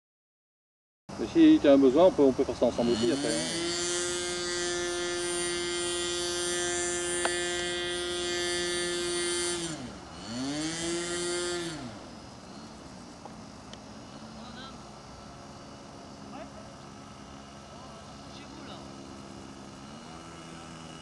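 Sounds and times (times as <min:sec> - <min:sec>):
model plane motor buzzing: 0:01.2 - 0:21.0.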